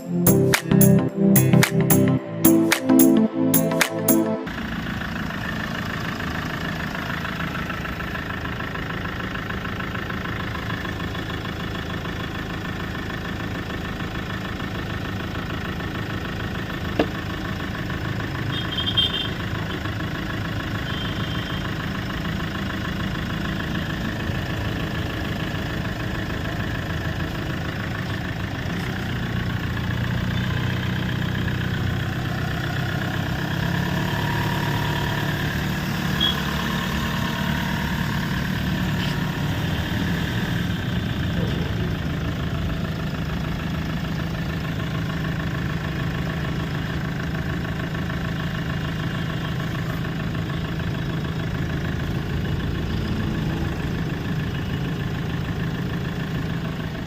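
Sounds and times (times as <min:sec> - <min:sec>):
car engine idling: 0:04.5 - 0:57.0.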